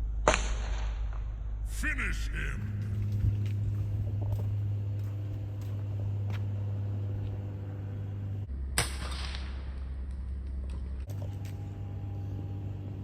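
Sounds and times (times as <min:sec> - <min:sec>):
steady low hum: 0:01.2 - 0:13.0.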